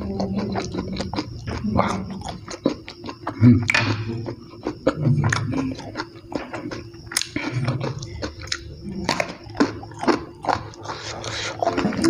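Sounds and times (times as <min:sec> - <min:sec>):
chewing food close up: 0:00.0 - 0:12.0.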